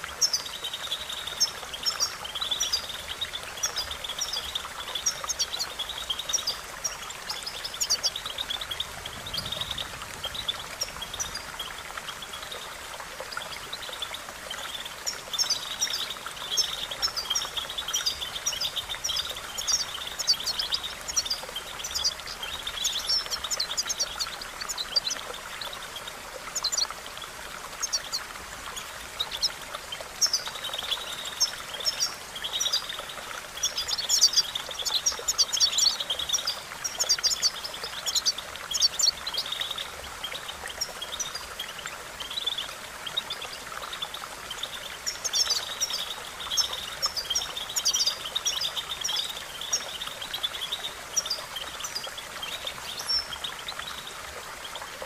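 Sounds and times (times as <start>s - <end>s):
running water: 0.0s - 55.0s.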